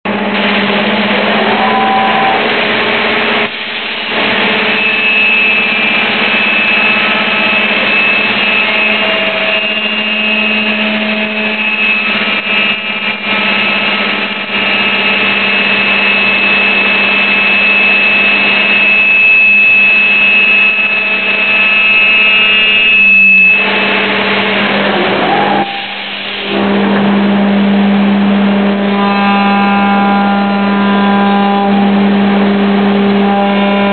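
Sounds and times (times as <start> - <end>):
milling machine spindle whine: 0.1 - 33.9.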